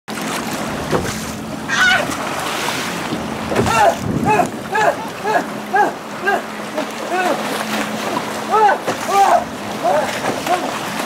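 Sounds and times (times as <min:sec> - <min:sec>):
water noise: 0:00.1 - 0:11.0
wind: 0:00.1 - 0:11.0.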